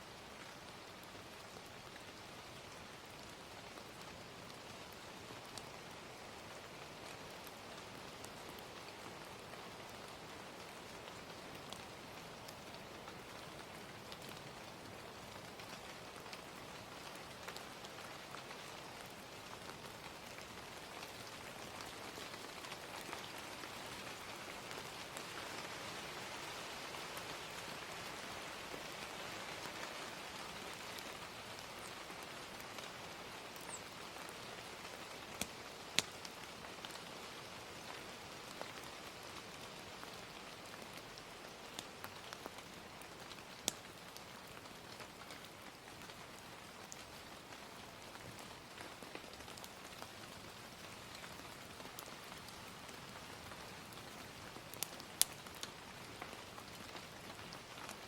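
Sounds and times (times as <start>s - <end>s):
gentle rain: 0.0s - 58.0s
fire crackling: 3.0s - 26.2s, 30.7s - 37.2s, 37.8s - 58.0s.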